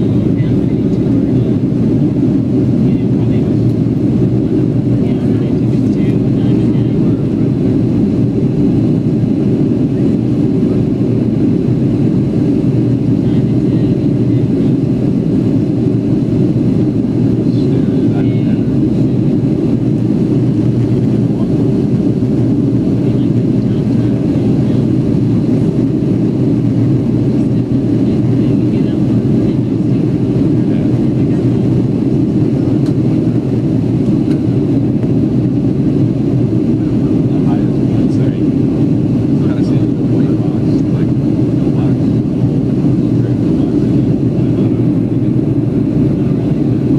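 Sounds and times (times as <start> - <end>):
jet engines rumbling: 0.0 - 46.9
rushing airflow: 0.0 - 46.9.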